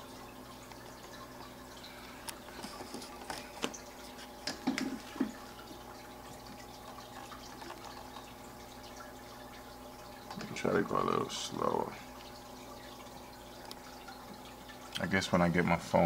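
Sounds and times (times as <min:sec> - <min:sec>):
water trickling and dripping: 0:00.0 - 0:16.0.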